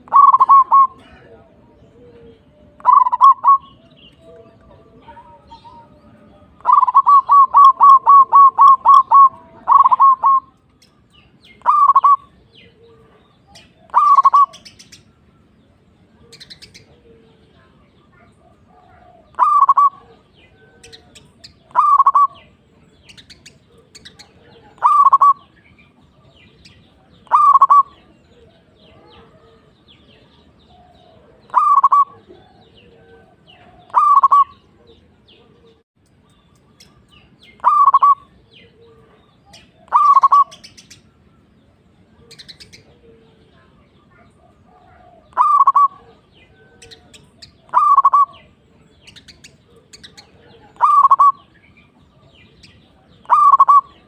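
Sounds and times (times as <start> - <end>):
dove cooing: 0.0 - 10.6, 11.6 - 14.9, 16.1 - 22.8, 23.4 - 25.6, 26.9 - 35.8, 37.6 - 40.8, 42.1 - 48.7, 49.4 - 51.5, 52.9 - 54.0
small birds chirping: 0.0 - 54.0.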